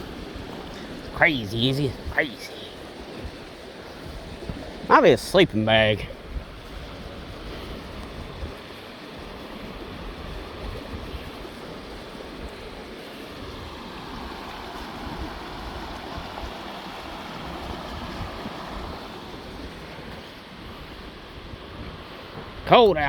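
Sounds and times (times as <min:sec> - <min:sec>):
rushing water: 0:00.0 - 0:23.0
wind on microphone: 0:00.0 - 0:23.0.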